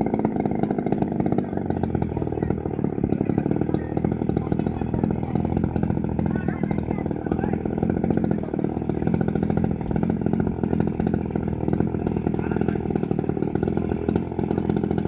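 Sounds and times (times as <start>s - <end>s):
model plane engine buzzing: 0.0s - 15.0s.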